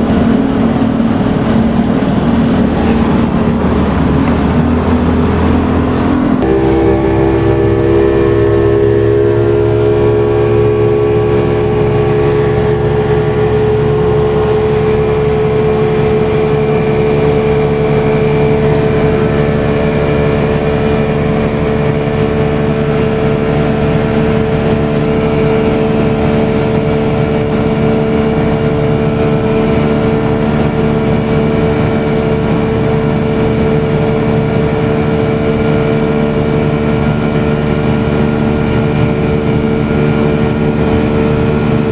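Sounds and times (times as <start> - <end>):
vehicle engine droning hum: 0.0 - 41.9.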